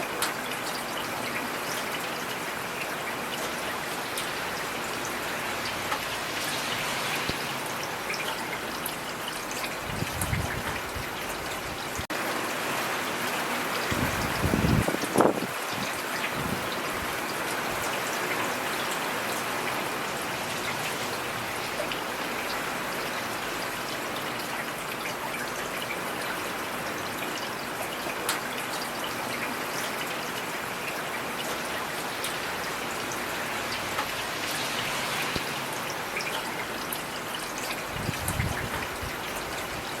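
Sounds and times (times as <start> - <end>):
raindrops ticking close by: 0.0 - 12.5, 13.4 - 40.0
steady rain falling: 0.0 - 40.0.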